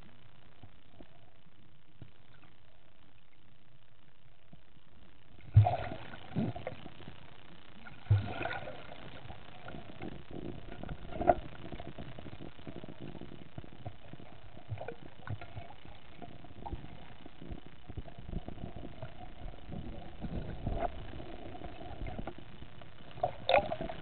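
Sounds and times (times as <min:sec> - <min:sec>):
watery crackle: 0:00.0 - 0:24.0.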